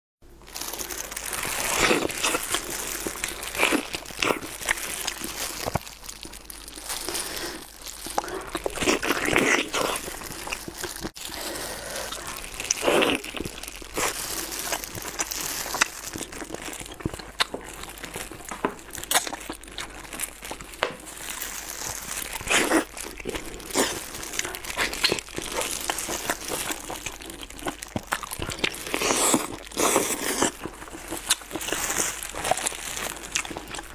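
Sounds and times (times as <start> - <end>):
plastic gloves crinkling: 0.3 - 33.9
biting and chewing: 0.4 - 33.9.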